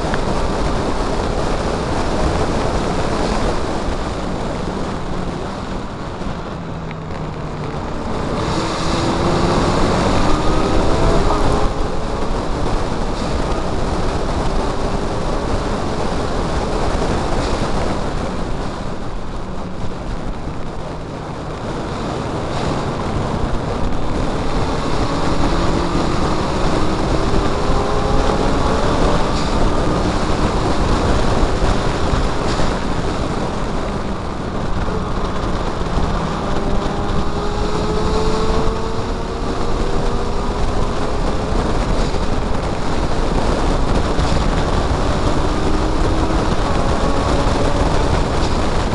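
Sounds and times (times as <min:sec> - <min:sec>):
car engine running hard: 0:00.0 - 0:48.9
wind and road noise: 0:00.0 - 0:48.9.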